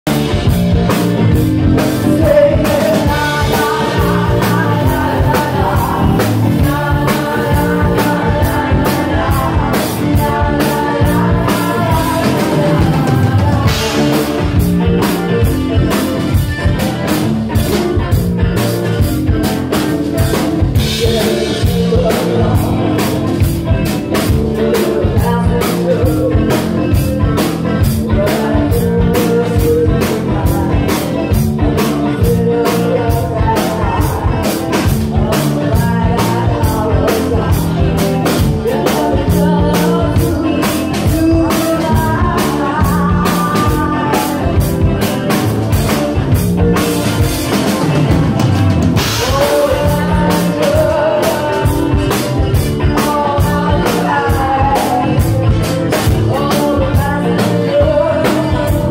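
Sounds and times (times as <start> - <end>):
drum kit beat: 0.0 - 58.9
electric guitar: 0.0 - 58.9
live rock band: 0.0 - 58.9
woman singing: 0.8 - 16.5, 17.6 - 47.5, 49.0 - 58.9.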